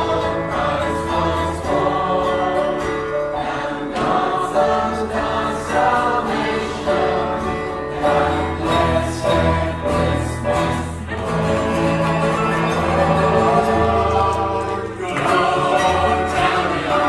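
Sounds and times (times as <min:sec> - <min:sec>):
choir singing: 0:00.0 - 0:17.0
instrumental accompaniment: 0:00.0 - 0:17.0.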